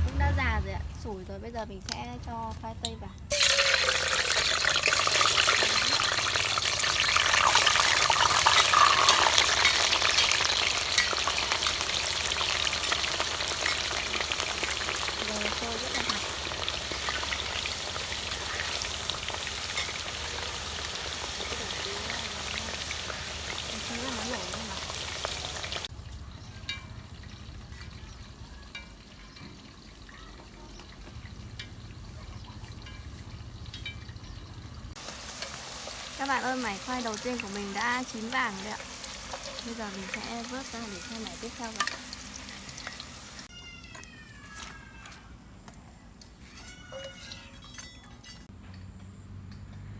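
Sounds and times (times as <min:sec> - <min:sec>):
potatoes sizzling in hot oil: 0:03.3 - 0:44.8.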